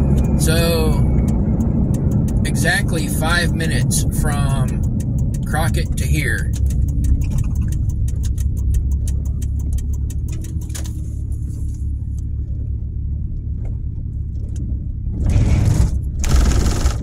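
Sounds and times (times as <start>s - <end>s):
turn signal ticking: 0.0s - 15.1s
car road rumble: 0.0s - 17.0s.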